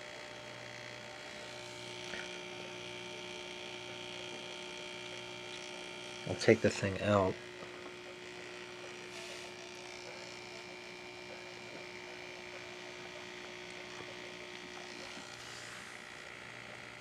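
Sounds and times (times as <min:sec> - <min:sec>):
electric pump humming: 0:00.0 - 0:17.0.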